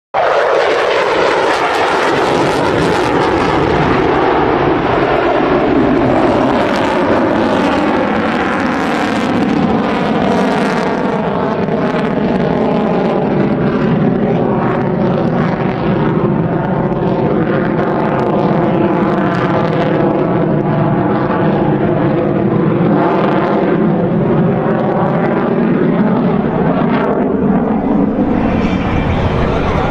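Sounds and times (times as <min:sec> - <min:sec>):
jet engine roaring: 0:00.2 - 0:29.9.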